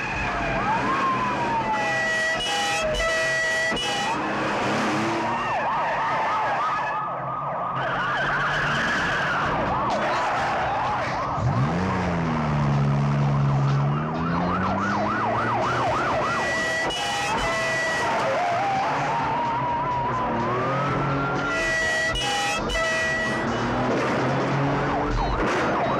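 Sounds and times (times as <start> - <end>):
police sirens wailing: 0.0 - 25.9
car engine revving: 0.6 - 5.7, 8.3 - 25.9.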